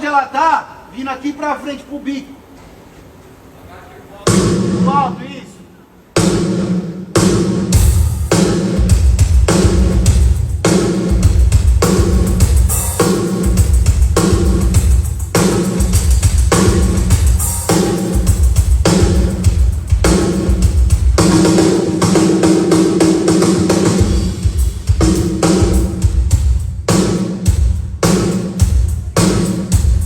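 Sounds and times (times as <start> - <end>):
drum kit playing steady groove: 4.2 - 30.0.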